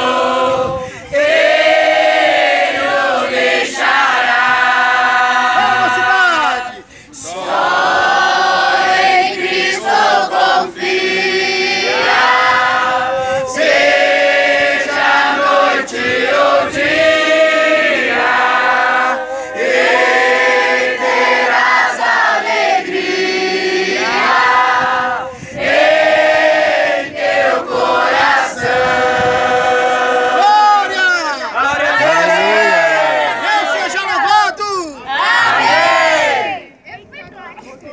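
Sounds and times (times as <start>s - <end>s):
group singing together: 0.0s - 30.6s, 31.6s - 33.8s, 35.1s - 36.7s.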